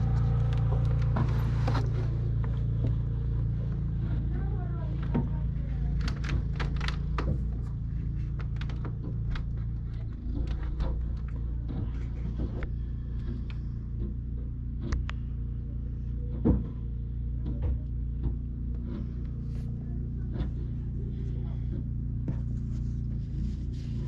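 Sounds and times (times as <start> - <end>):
snowblower engine humming: 0.0 - 24.0.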